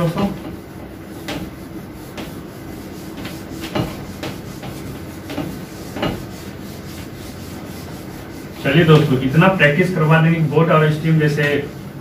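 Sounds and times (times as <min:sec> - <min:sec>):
duster rubbing on whiteboard: 0:00.0 - 0:12.0.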